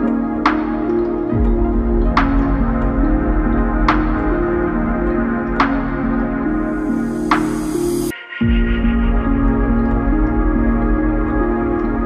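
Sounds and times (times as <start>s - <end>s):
ambient background music: 0.0s - 12.0s.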